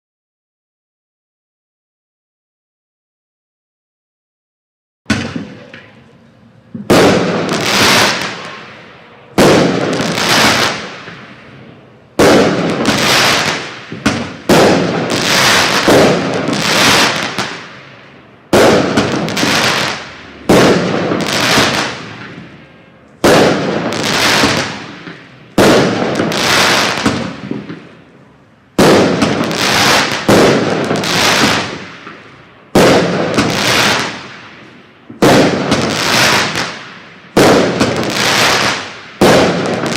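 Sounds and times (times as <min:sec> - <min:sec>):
fireworks banging: 0:05.1 - 0:39.9.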